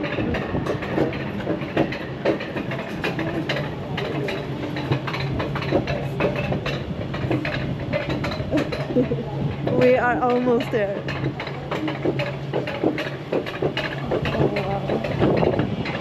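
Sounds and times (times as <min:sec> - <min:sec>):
clicking wheels on rail track: 0:00.0 - 0:16.0.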